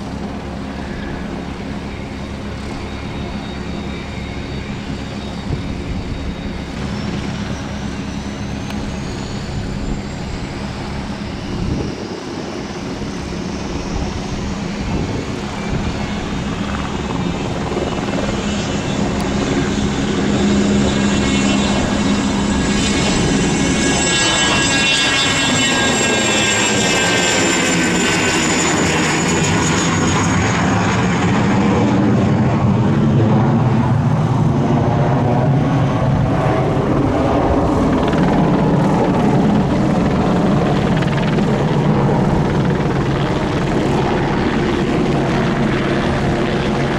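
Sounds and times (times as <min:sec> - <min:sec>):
jet turbine whine: 0:00.0 - 0:46.9.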